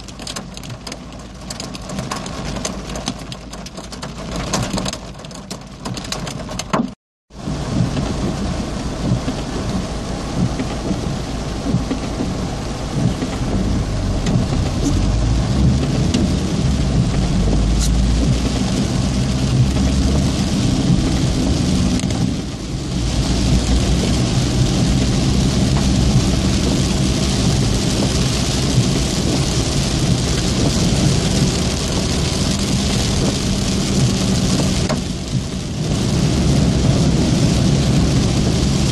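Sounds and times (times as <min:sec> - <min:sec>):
heavy rain on car roof: 0:00.0 - 0:38.9
deep rumble: 0:07.3 - 0:38.9.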